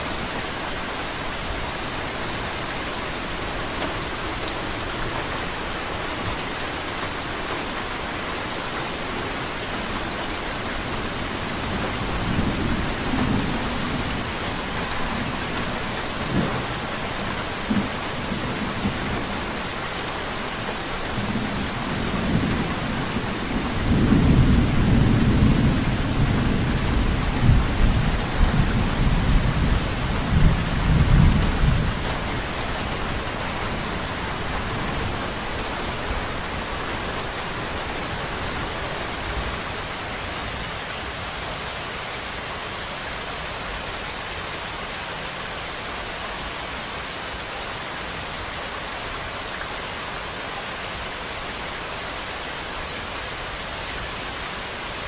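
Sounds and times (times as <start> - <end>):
steady rainfall hissing: 0.0 - 55.0.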